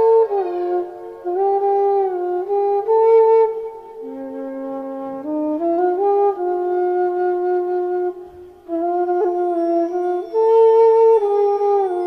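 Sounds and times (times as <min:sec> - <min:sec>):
slow flute-like melody: 0:00.0 - 0:12.0.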